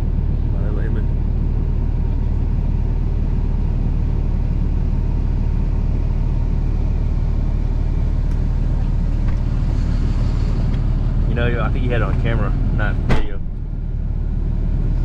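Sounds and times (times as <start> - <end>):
vehicle engine and road drone: 0.0 - 15.0.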